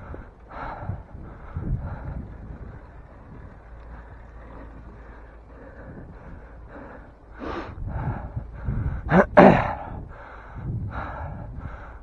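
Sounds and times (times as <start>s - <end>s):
person breathing hard: 0.0s - 2.6s, 4.0s - 12.0s
bike tyres rumbling: 0.0s - 12.0s
noisy rush: 0.0s - 12.0s.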